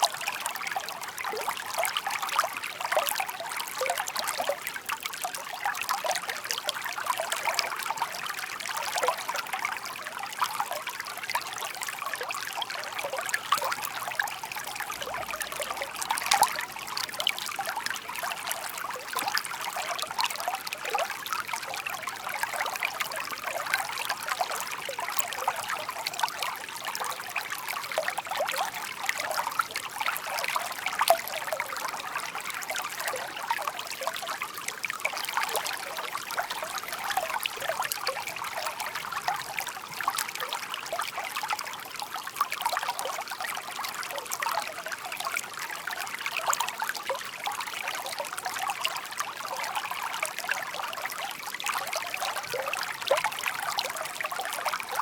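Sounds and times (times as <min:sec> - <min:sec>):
brook burbling over stones: 0:00.0 - 0:55.0.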